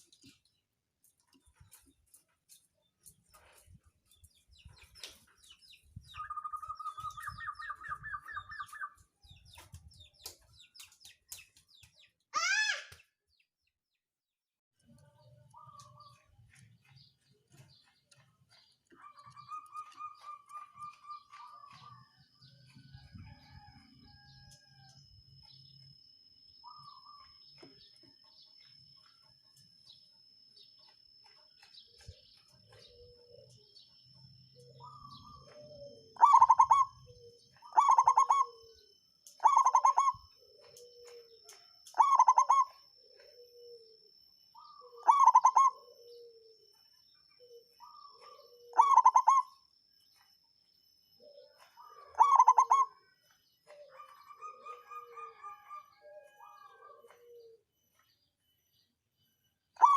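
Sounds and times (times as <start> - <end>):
dove singing: 1.2 - 12.8, 15.0 - 59.9.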